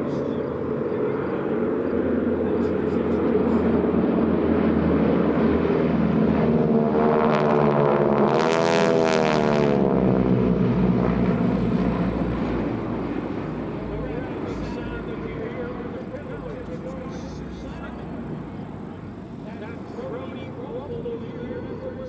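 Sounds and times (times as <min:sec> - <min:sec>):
propeller planes flying over: 0:00.0 - 0:22.0.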